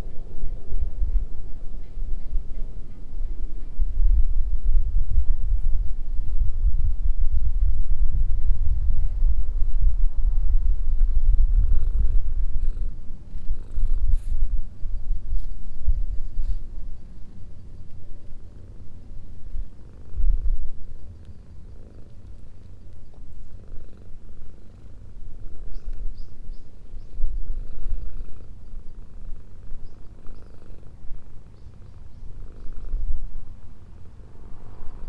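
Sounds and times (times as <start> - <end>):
kitten purring: 4.0 - 33.8.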